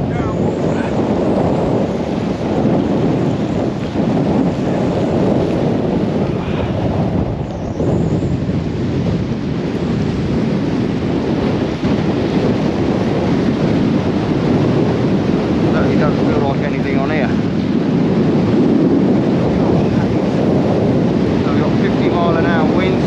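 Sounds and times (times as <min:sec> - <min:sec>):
driving rain: 0:00.0 - 0:23.0
wind buffeting microphone: 0:00.0 - 0:23.0.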